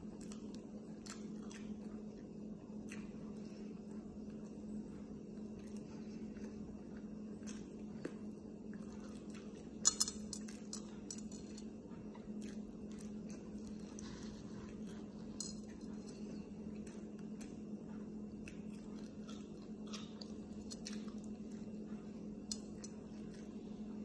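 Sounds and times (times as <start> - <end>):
low hum: 0.0 - 24.0
person chewing food: 0.0 - 24.0.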